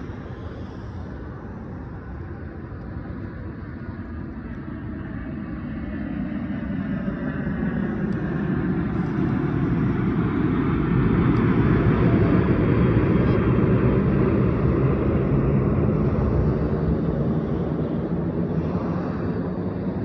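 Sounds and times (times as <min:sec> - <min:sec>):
airplane engine rumble: 0:00.0 - 0:20.0.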